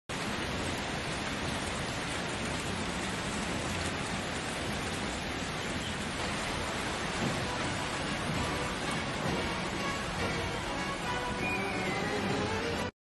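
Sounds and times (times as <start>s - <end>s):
steady rain hiss: 0.1s - 12.9s.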